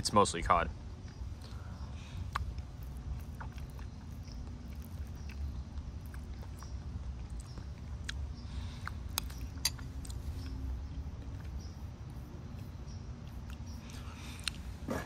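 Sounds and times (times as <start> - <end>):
steady low rumble: 0.0 - 14.9
person chewing food: 1.0 - 14.9.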